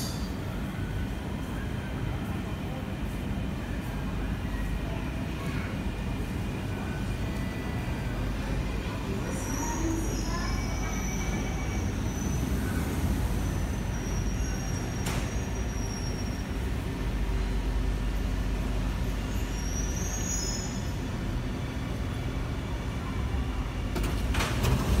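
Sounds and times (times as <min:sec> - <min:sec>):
metro train rumbling to a stop: 0:00.0 - 0:25.0.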